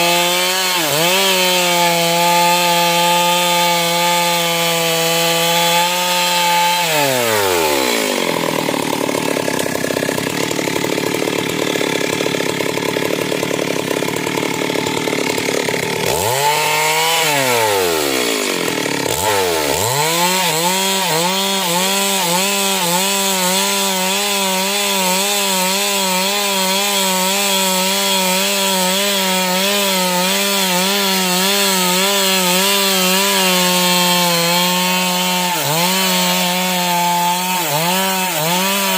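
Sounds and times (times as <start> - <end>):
chainsaw ripping log: 0.0 - 38.9.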